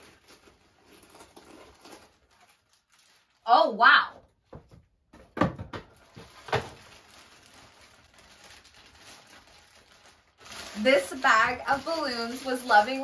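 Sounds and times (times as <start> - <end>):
plastic bag crinkling: 0.0 - 3.9, 5.9 - 13.0
faint plastic rustling: 0.0 - 4.9, 5.8 - 13.0.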